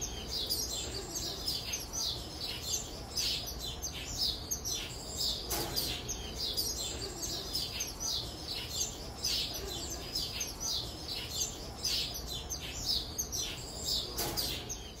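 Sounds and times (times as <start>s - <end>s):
young birds chirping: 0.0s - 15.0s.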